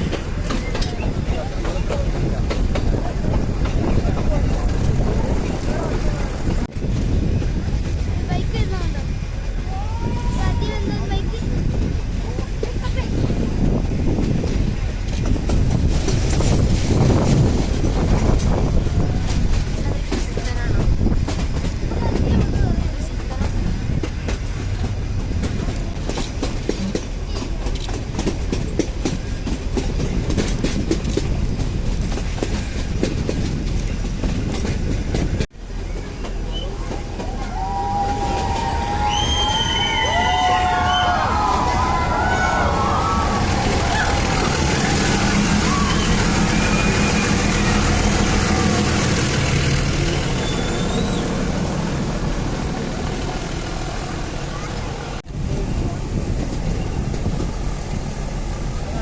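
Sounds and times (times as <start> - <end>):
wheels clicking and knocking: 0.0 - 8.9, 10.1 - 58.1
train rumbling along track: 0.0 - 59.0.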